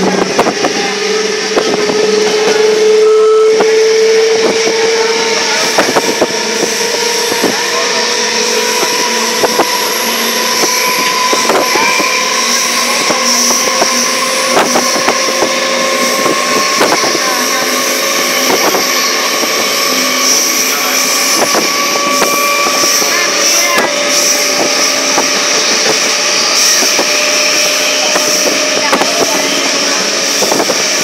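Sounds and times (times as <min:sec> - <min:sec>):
train running noise with whine: 0:00.0 - 0:31.0.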